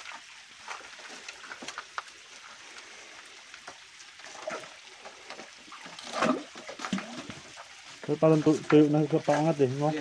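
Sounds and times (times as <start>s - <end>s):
steady hiss: 0.0s - 10.0s
water trickling and dripping: 0.0s - 10.0s.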